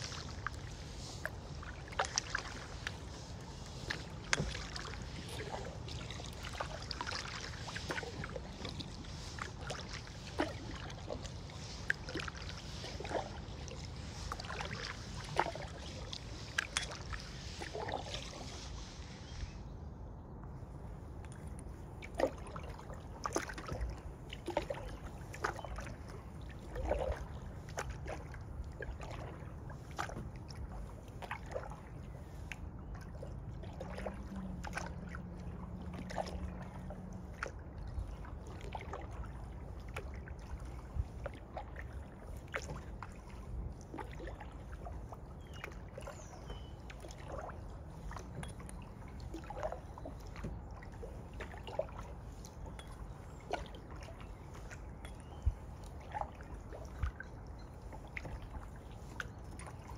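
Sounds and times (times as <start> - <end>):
paddle splashes in water: 0.0 - 19.7, 20.5 - 59.9.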